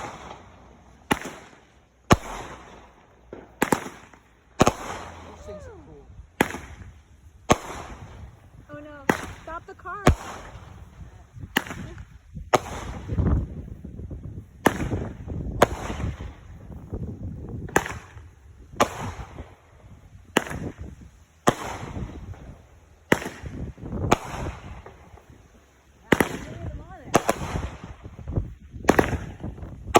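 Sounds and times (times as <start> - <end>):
fireworks banging: 0.0 - 29.9.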